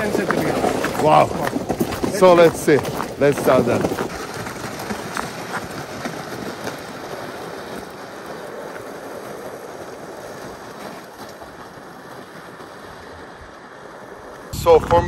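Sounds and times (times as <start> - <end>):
footsteps crunching on ice: 0.0 - 15.0
sled scraping on ice: 0.0 - 15.0.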